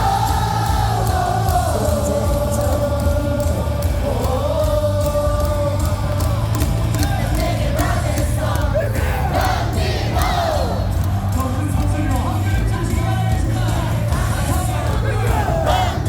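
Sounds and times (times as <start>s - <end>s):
music over stadium speakers: 0.0s - 16.0s
stadium crowd singing: 0.0s - 16.0s.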